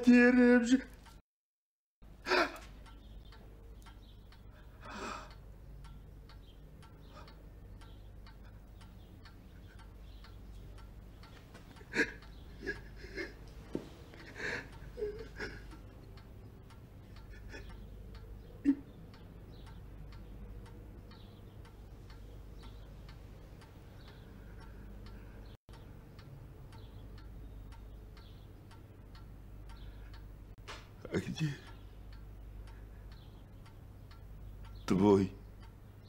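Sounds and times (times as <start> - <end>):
steady ticking: 2.0 - 36.0.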